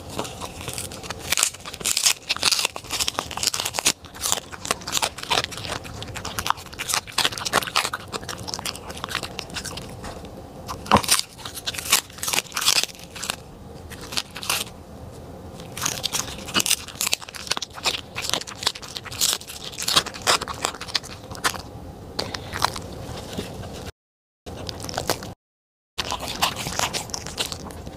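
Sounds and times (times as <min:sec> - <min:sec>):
dog crunching fish: 0:00.0 - 0:14.8, 0:15.5 - 0:23.9, 0:24.5 - 0:25.4, 0:26.0 - 0:27.9.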